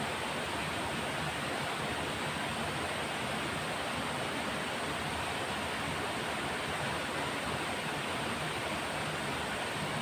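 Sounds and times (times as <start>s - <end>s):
river water flowing over rocks: 0.0s - 10.0s.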